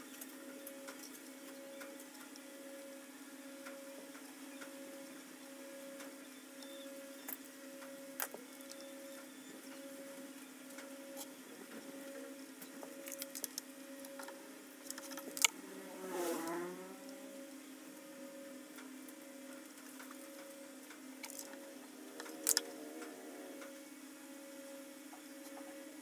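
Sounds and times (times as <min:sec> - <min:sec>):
faint pulsing tone: 0:00.0 - 0:26.0
steady background hum: 0:00.0 - 0:26.0.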